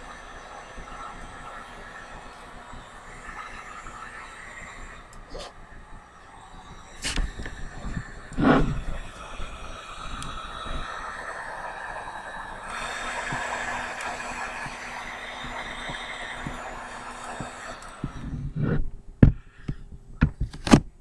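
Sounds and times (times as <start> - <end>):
heat gun blowing: 0.0 - 19.7
low hum: 0.0 - 21.0.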